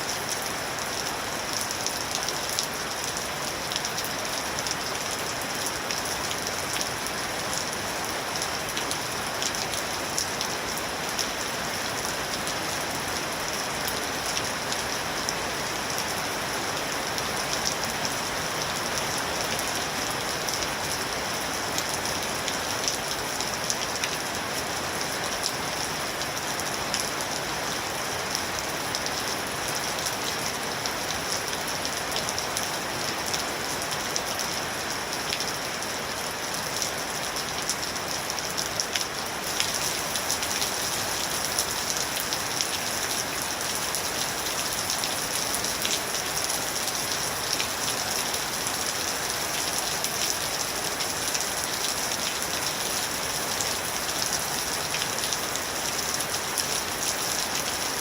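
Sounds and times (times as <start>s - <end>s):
rain patter: 0.0s - 58.0s.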